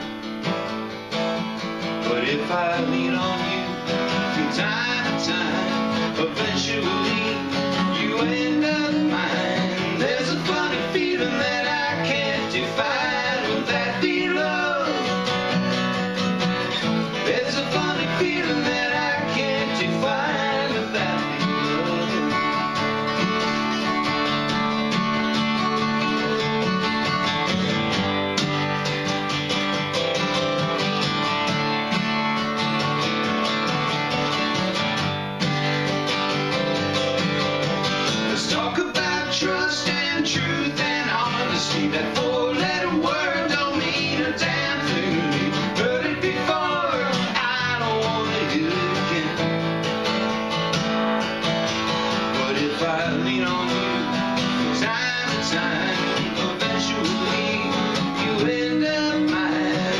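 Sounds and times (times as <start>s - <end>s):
acoustic guitars strumming: 0.0s - 59.9s.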